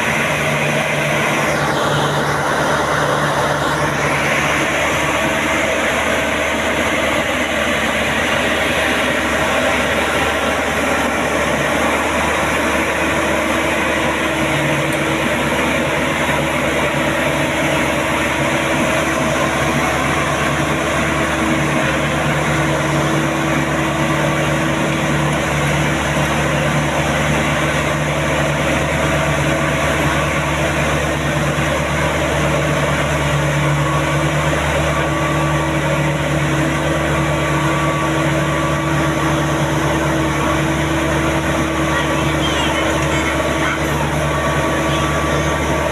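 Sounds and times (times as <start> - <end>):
combine harvester engine running: 0.0 - 45.9.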